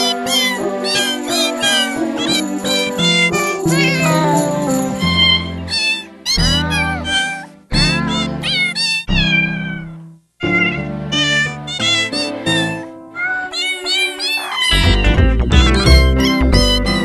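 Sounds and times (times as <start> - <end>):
music backing track: 0.0 - 14.0, 14.7 - 17.0
pitch-shifted cat meows melody: 0.0 - 17.0.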